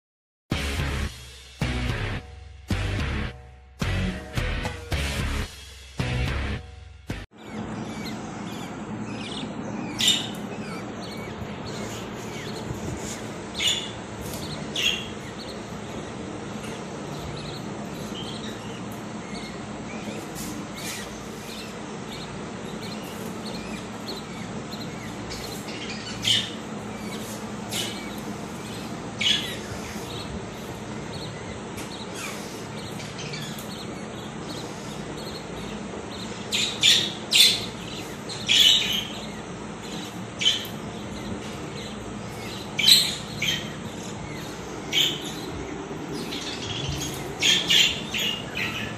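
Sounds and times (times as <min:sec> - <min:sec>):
bird chicks chirping: 0:00.5 - 0:48.9
steady low hum: 0:00.5 - 0:48.9.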